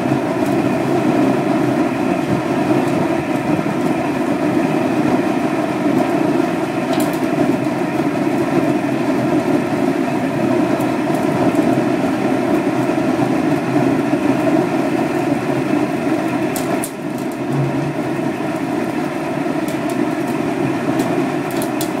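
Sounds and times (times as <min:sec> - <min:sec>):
burner flame jet rushing: 0:00.0 - 0:22.0.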